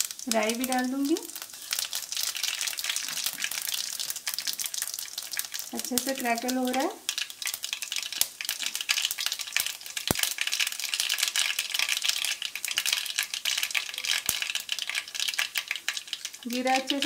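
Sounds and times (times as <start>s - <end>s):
seeds crackling in hot oil: 0.0s - 17.0s.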